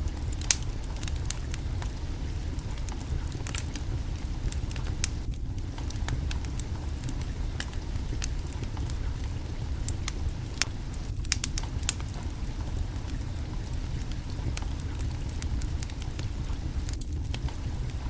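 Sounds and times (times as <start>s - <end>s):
low rumble: 0.0s - 18.0s
wood fire crackling: 0.0s - 18.0s.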